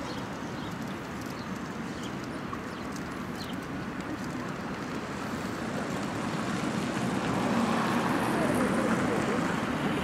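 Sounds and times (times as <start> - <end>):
distant road traffic hum: 0.0 - 10.0.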